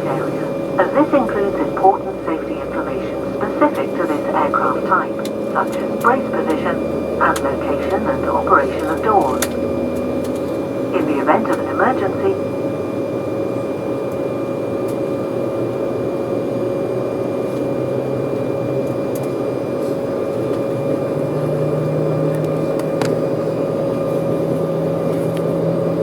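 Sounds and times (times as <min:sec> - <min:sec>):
airliner cabin engine drone: 0:00.0 - 0:26.0.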